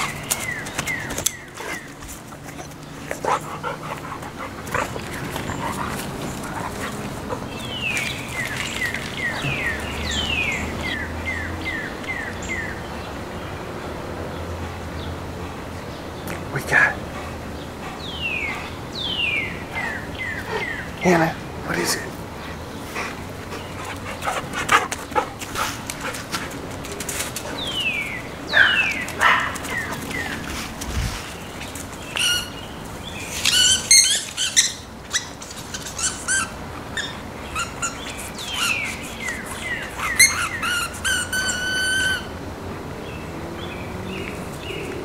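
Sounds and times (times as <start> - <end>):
birds calling: 0.0 - 45.0.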